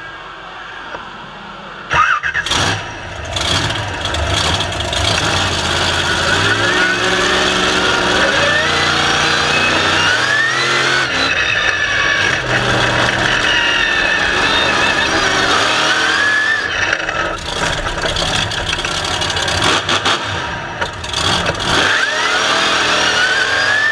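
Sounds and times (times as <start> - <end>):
rising high whine: 0.0 - 23.9
truck engine running hard: 1.9 - 23.9.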